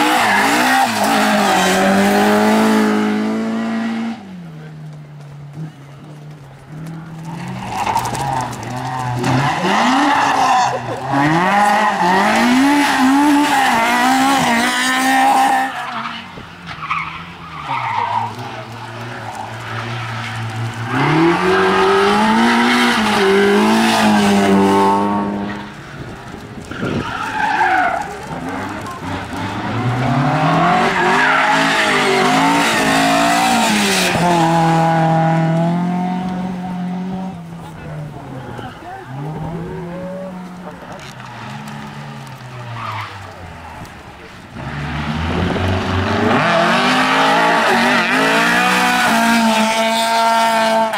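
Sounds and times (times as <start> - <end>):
rally cars passing: 0.0 - 50.9.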